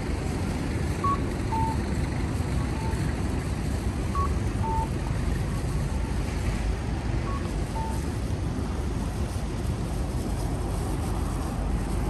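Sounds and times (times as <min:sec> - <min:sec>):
traffic roar: 0:00.0 - 0:12.0
wind on microphone: 0:02.0 - 0:12.0.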